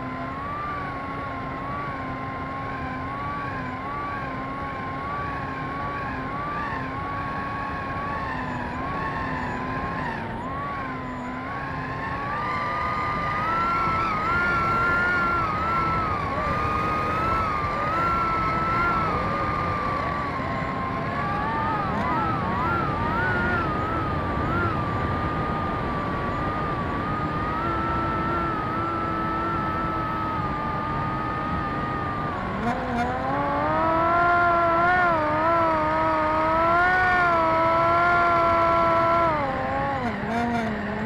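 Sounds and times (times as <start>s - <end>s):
model plane motor whining: 0.0s - 41.0s.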